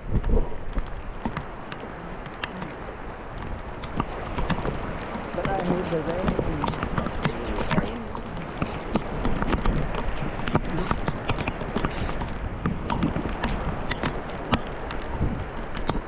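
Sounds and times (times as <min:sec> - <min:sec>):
heavy rain on water: 0:00.0 - 0:16.0
drops ticking: 0:00.7 - 0:16.0.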